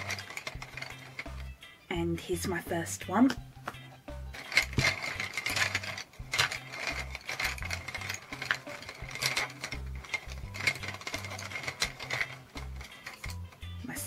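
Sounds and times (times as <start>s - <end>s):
wooden pencils rattling in a pot: 0.0s - 3.4s, 4.2s - 14.0s.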